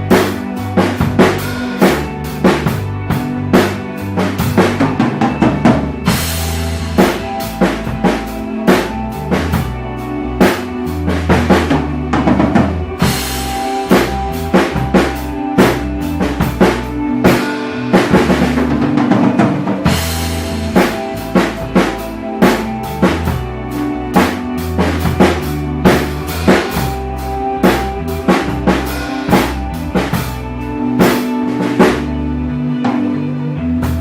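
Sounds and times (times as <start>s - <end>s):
ambient rock backing track: 0.0s - 34.0s
drum kit groove: 0.0s - 34.0s.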